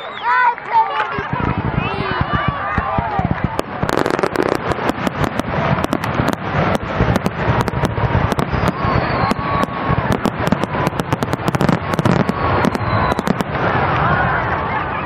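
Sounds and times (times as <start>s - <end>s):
fireworks bangs and crackles: 0.5s - 15.0s.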